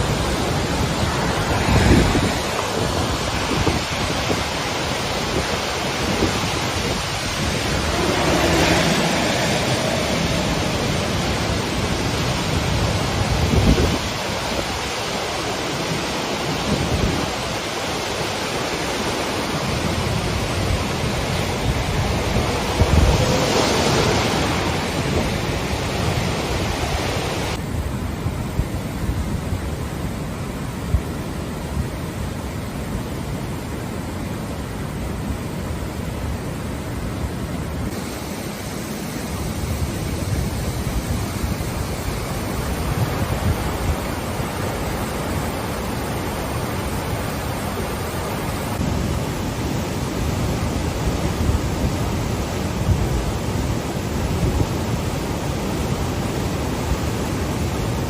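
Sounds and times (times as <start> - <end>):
floodwater rushing: 0.0 - 27.7, 29.7 - 58.0
wind buffeting microphone: 0.0 - 32.2, 37.0 - 58.0.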